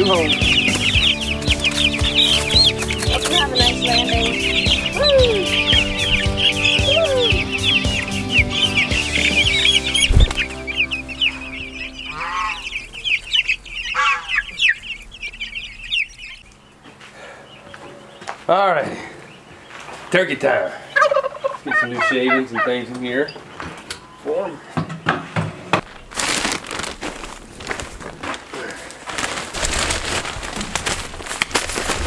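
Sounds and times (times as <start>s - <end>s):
chicks peeping: 0.0s - 25.1s, 25.8s - 32.0s.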